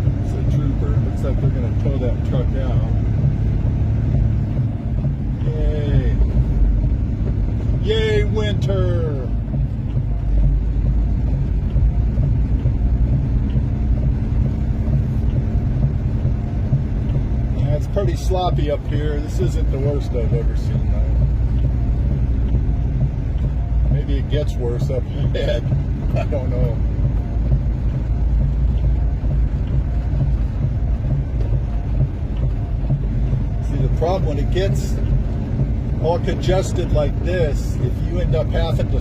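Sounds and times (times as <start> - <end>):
tyres on slushy road: 0.0 - 39.0
vehicle engine rumble: 0.0 - 39.0.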